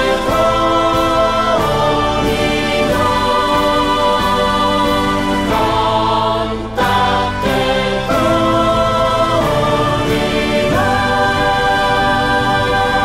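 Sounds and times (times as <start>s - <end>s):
choir-like hymn chords: 0.0s - 13.0s.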